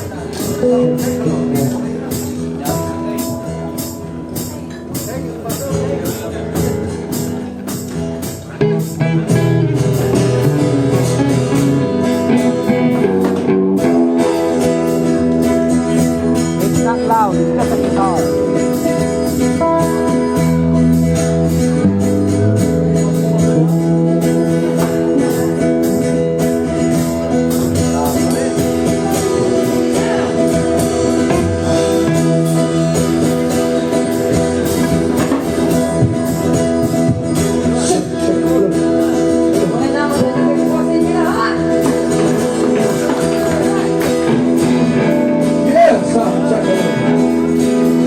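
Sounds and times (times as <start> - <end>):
strummed acoustic guitar: 0.0 - 48.0.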